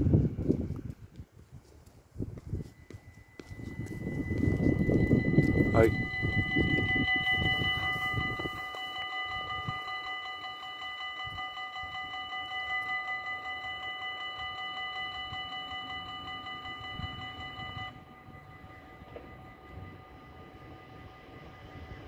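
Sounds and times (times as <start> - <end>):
level crossing bells ringing: 2.6 - 22.0.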